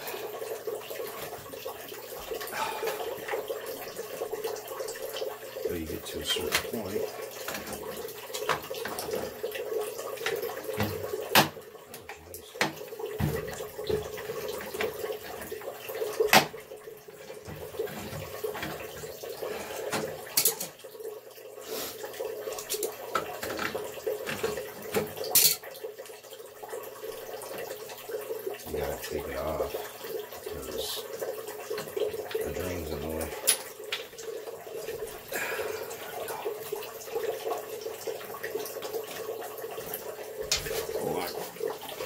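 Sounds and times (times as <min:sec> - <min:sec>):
water running: 0:00.0 - 0:42.0.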